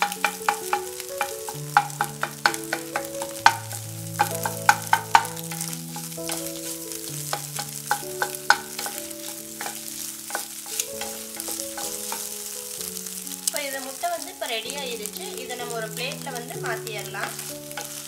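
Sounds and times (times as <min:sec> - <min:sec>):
eggs sizzling: 0:00.0 - 0:18.0
soft background music: 0:00.0 - 0:18.0
wooden spatula scraping a pan: 0:00.0 - 0:18.0.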